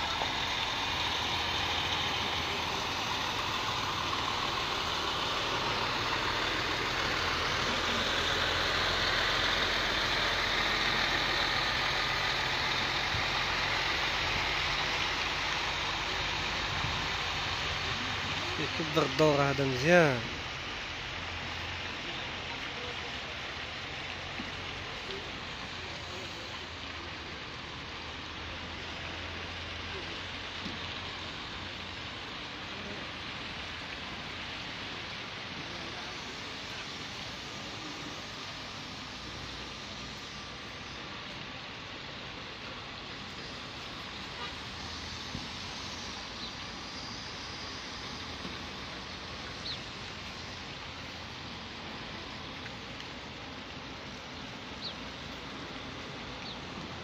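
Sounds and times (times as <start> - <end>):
heavy truck engine hum: 0.0 - 57.0
tyres rushing on road: 0.0 - 57.0.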